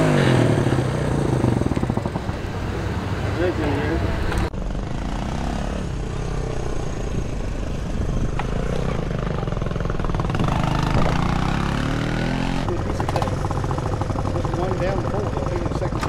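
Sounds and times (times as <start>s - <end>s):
motorbike engines passing: 0.0s - 16.0s.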